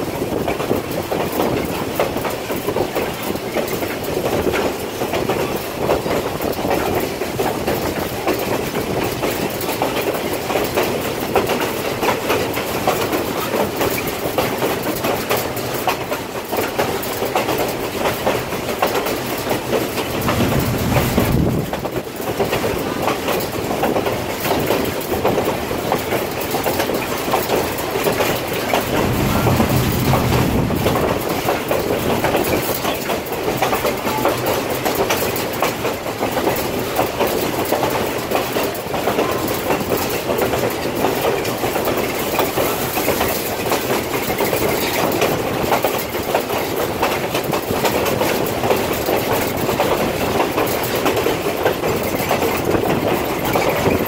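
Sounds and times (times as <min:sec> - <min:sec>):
deep train rumble: 0:00.0 - 0:54.0
train wheels running on rails: 0:00.0 - 0:54.0.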